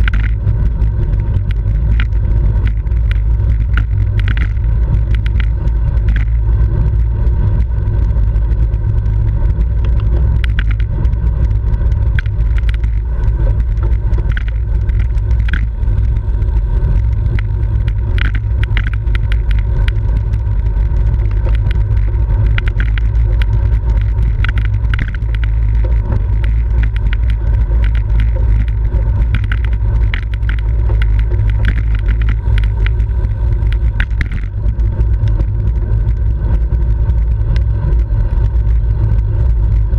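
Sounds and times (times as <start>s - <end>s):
road and tyre noise: 0.0s - 39.9s
wind rumble on microphone: 0.0s - 39.9s.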